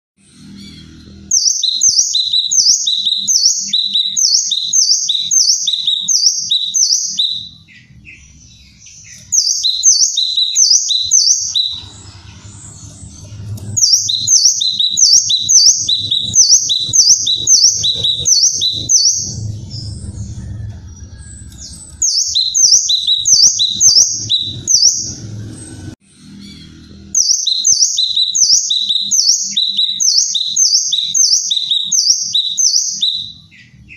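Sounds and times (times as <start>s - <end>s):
bird singing high falling notes: 0.2s - 33.9s.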